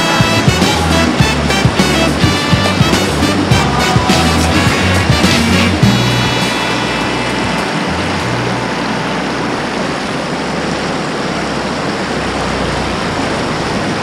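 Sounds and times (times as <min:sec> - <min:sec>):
wave breaking: 0:00.0 - 0:14.0
whitewater rushing through rapid: 0:00.0 - 0:14.0.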